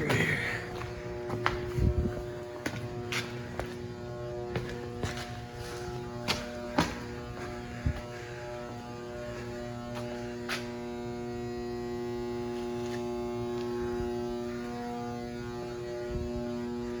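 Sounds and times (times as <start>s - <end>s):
footsteps on concrete: 0.0s - 15.4s
electrical mains hum: 0.0s - 17.0s.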